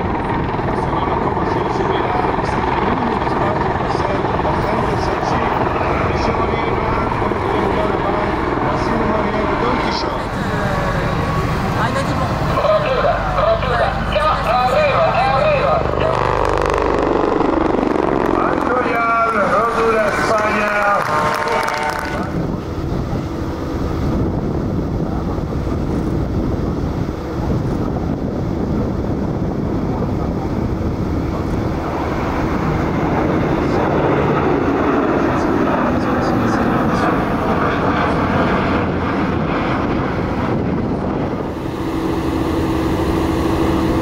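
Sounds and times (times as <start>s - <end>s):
steady hum: 0.0s - 44.0s
turboprop aircraft passing: 0.0s - 44.0s.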